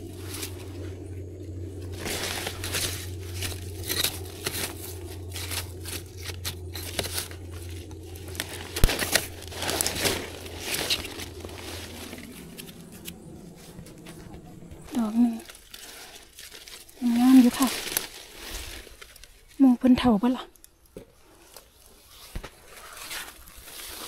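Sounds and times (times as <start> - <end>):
leaves rustling and crackling: 0.0 - 20.4, 21.2 - 24.0
low hum: 0.0 - 24.0.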